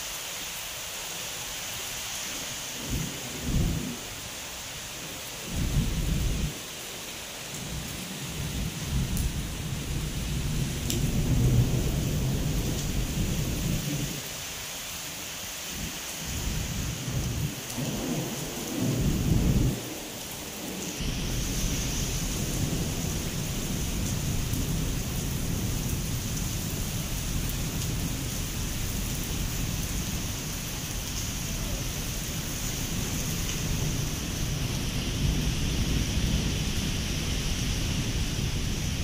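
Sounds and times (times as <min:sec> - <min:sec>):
heavy rain on concrete: 0:00.0 - 0:39.0.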